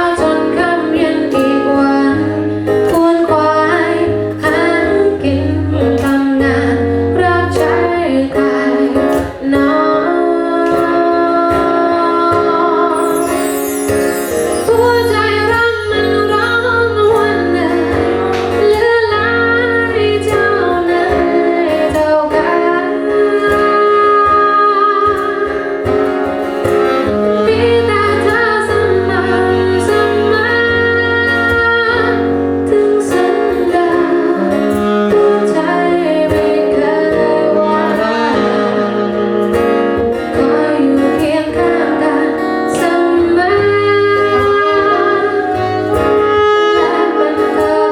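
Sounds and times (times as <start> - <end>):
bass: 0.0 - 44.9
guitar: 0.0 - 47.9
woman singing: 0.0 - 47.9.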